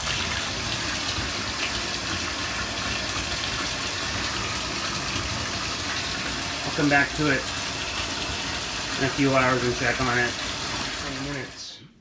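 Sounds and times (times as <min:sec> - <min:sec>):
water pouring into bathtub: 0:00.0 - 0:11.8.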